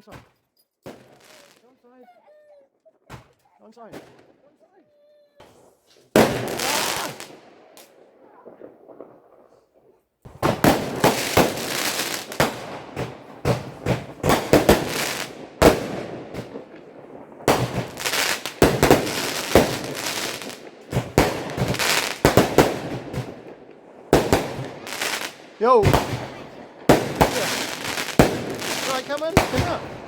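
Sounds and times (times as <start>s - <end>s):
fireworks bangs: 0.9s - 1.7s, 5.4s - 30.0s
fireworks crackle: 0.9s - 1.7s, 5.4s - 30.0s.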